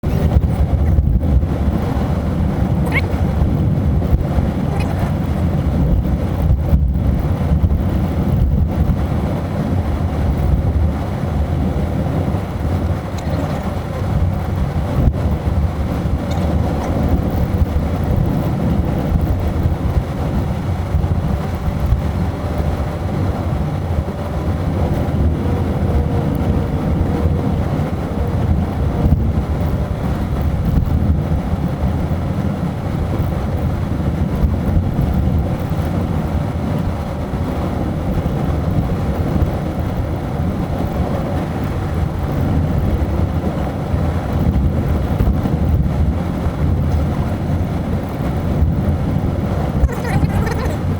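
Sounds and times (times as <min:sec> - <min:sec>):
car engine and road rumble: 0:00.0 - 0:50.9
wind noise: 0:00.0 - 0:50.9.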